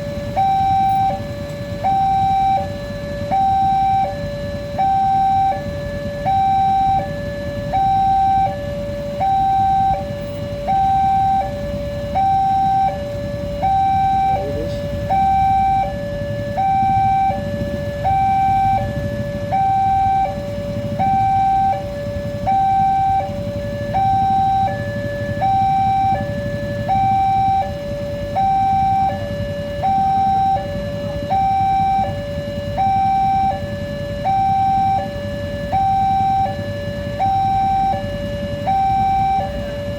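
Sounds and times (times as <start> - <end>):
two-tone crossing alarm: 0.0 - 39.9.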